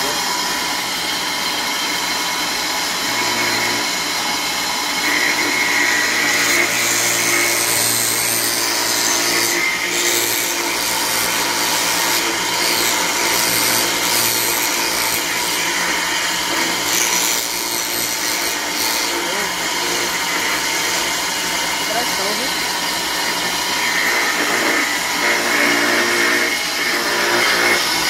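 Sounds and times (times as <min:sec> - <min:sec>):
router bit rasping through wood: 0:00.0 - 0:28.0
router motor whine: 0:00.0 - 0:28.0.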